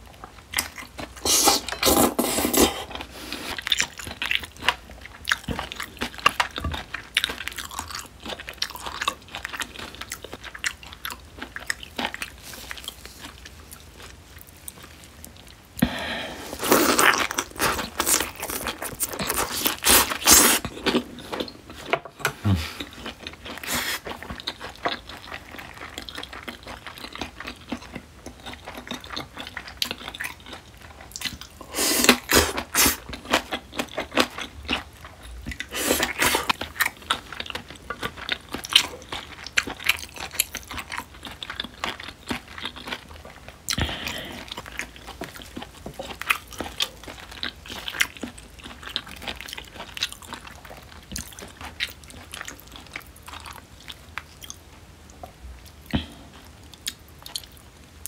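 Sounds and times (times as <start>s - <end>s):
close chewing and crunching: 0.0s - 58.0s.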